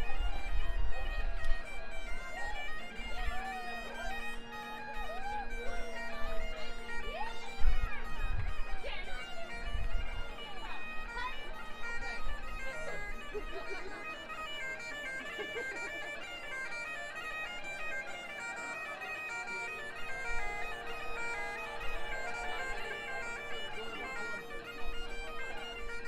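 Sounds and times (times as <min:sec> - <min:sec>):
bagpipes playing a tune: 0:00.0 - 0:26.0.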